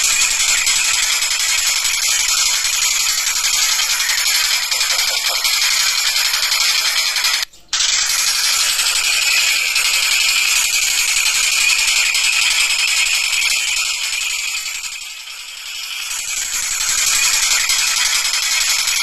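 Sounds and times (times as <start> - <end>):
kingfisher rattling chatter: 0.0 - 19.0.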